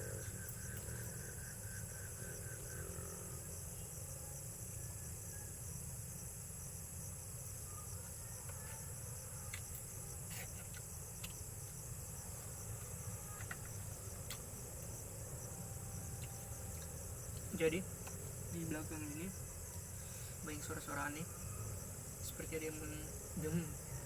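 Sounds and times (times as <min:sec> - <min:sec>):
crickets and insects trilling: 0:00.0 - 0:24.0.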